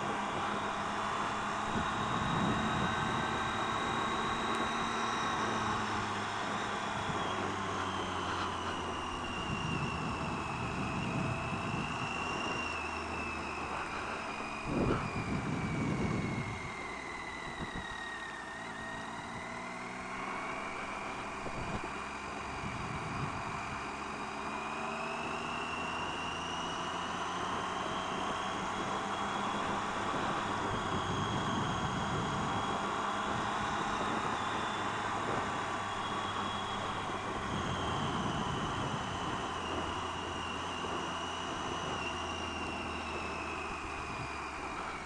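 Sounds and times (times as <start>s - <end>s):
motorcycle engine whine: 0.0s - 45.0s
rush of wind: 0.0s - 45.0s.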